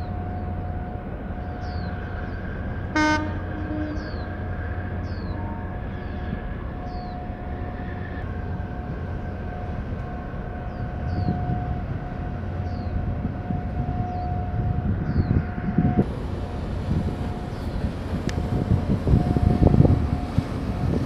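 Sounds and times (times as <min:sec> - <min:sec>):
ship low rumble: 0:00.0 - 0:21.0.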